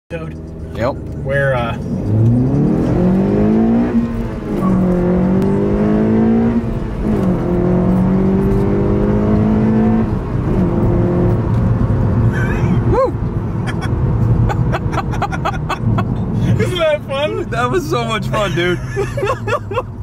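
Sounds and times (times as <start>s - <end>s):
car engine accelerating: 0.1s - 20.0s.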